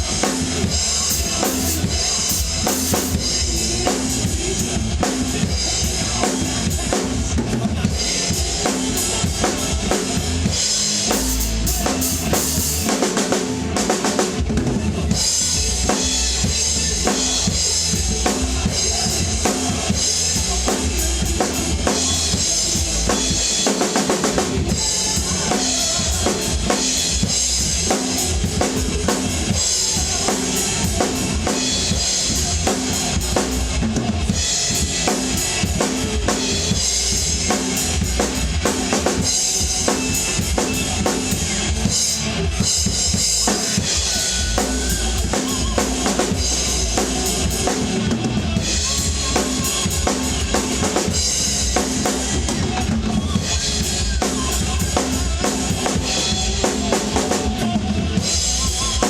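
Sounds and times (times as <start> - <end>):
drum kit played hard: 0.0 - 59.0
recorded hard rock song: 0.0 - 59.0.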